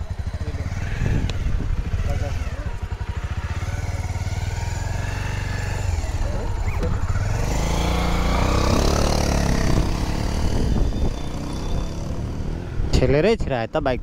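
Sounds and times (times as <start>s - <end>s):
motorcycle engine idling: 0.0s - 12.8s
motorcycle revving and pulling away: 0.0s - 14.0s.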